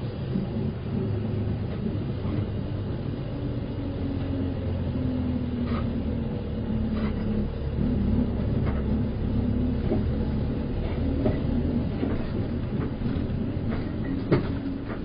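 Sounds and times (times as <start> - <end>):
bus diesel engine rumbling: 0.0 - 15.0.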